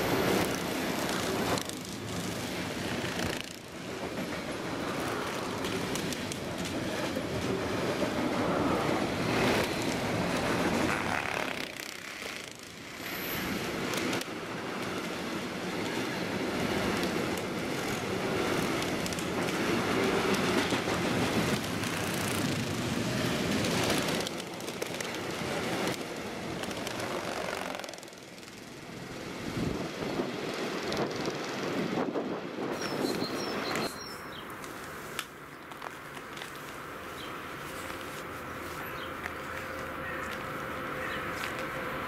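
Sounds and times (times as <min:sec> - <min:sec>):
freight train rolling past: 0:00.0 - 0:34.6.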